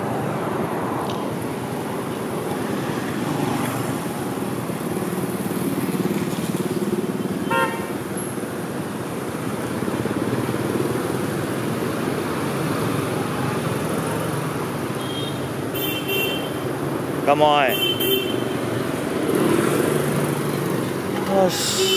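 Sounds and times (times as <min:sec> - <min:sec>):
motorbike engines running: 0:00.0 - 0:15.8, 0:16.4 - 0:21.9.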